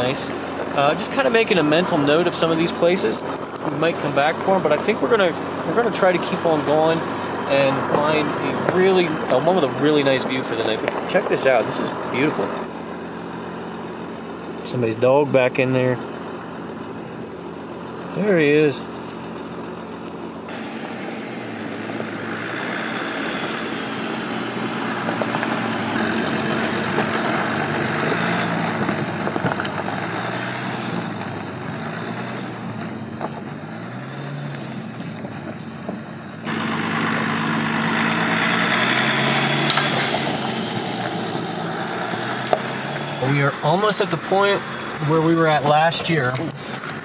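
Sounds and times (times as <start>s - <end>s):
diesel engine pulling uphill: 0.0s - 47.0s.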